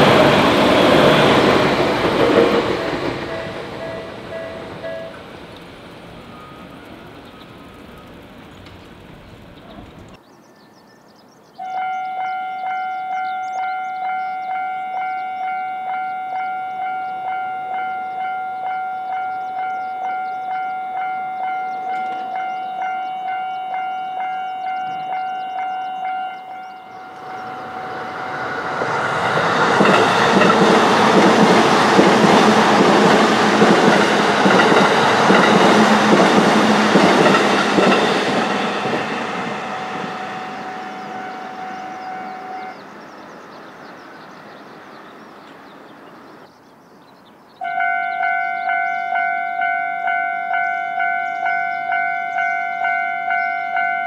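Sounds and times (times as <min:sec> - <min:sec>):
level-crossing warning bell ringing: 0:00.0 - 0:05.4, 0:06.0 - 0:08.4, 0:11.6 - 0:31.1, 0:31.7 - 0:42.9, 0:47.6 - 0:54.0
train passing with wheel clatter: 0:00.0 - 0:10.6, 0:11.6 - 0:54.0.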